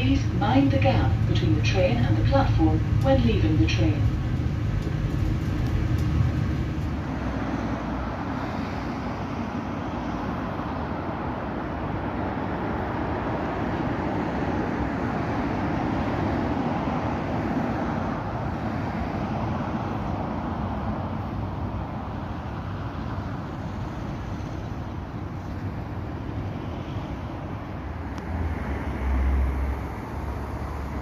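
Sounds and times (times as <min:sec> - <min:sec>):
road traffic rushing: 0:00.0 - 0:31.0
train carriage hum: 0:00.0 - 0:31.0.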